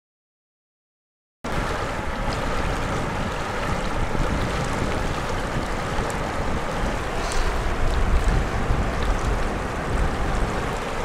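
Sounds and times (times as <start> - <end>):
water rushing: 1.5 - 11.0
wind buffeting microphone: 1.5 - 11.0.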